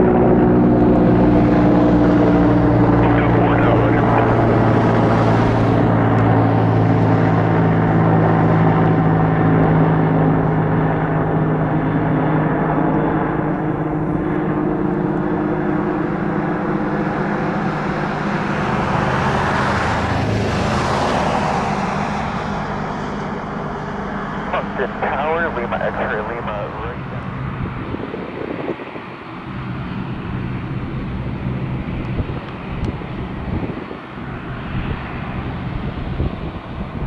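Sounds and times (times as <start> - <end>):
helicopter flying overhead: 0.0 - 37.0.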